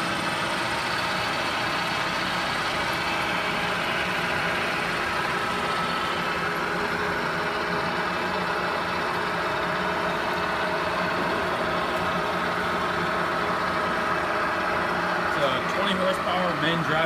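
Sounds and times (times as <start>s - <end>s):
lathe motor humming: 0.0s - 17.0s.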